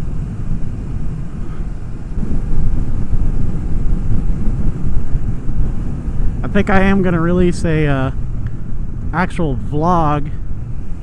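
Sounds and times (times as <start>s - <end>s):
motorcycle running: 0.0s - 11.0s
road noise: 0.0s - 11.0s
wind rushing over microphone: 0.0s - 11.0s.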